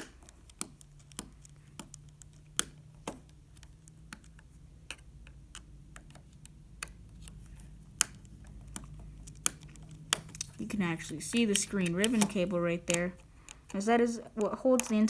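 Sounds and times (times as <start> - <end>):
small parts clicking and tapping: 0.0 - 15.0.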